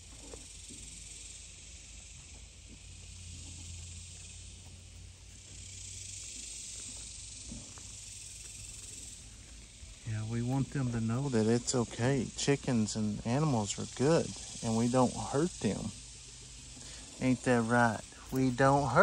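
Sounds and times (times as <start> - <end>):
high-pitched insect drone: 0.0 - 19.0
small animals rustling on wood chips: 2.4 - 19.0.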